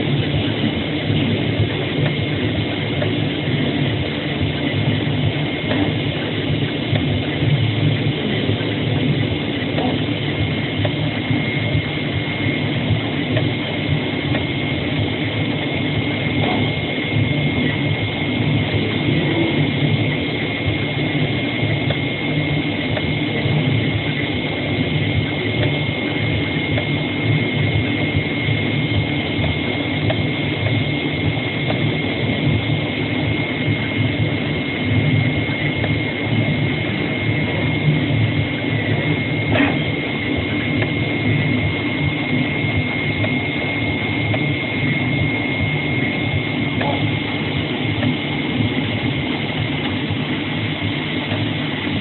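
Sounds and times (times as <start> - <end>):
cutting machine humming: 0.0 - 52.0
high-pitched machine whine: 0.0 - 52.0.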